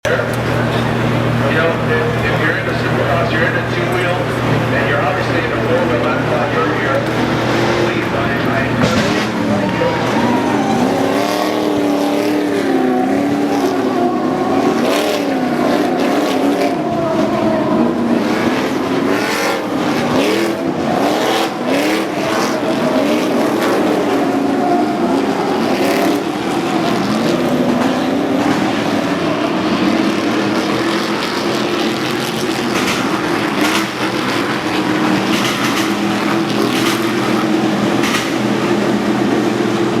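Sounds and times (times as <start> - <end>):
truck engines revving: 0.0 - 40.0.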